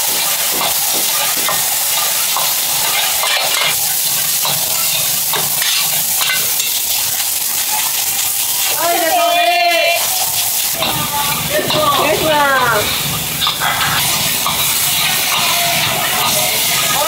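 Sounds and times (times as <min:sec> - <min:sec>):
metal spatula scraping a wok: 0:00.0 - 0:09.2, 0:09.9 - 0:17.0
rice sizzling in a wok: 0:00.0 - 0:17.0.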